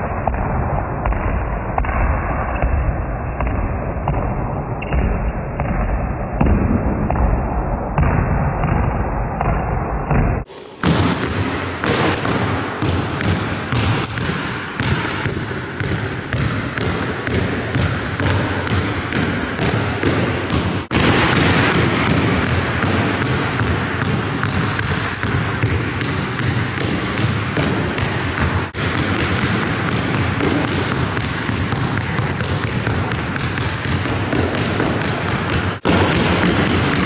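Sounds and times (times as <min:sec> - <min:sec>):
basketballs bouncing: 0:00.0 - 0:37.0.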